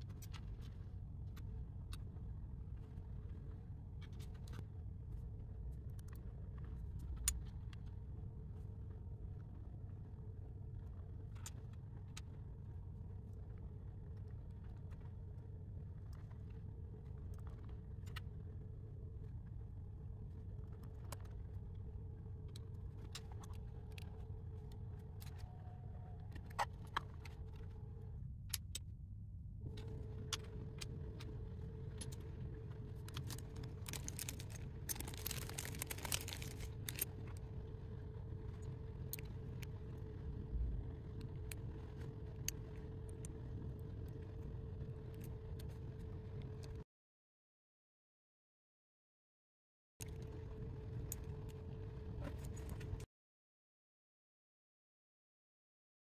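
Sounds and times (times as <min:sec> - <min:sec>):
steady low hum: 0:00.0 - 0:46.9, 0:50.0 - 0:53.1.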